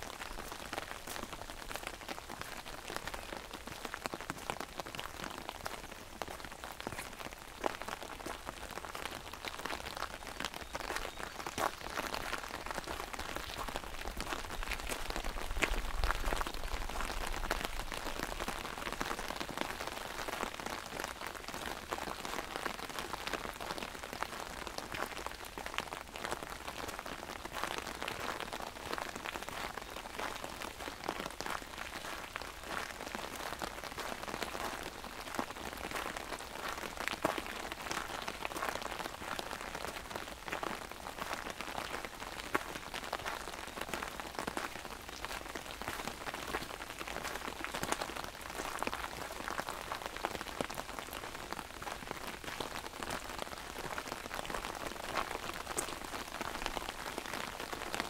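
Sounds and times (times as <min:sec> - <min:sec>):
rain on an umbrella: 0:00.0 - 0:58.0.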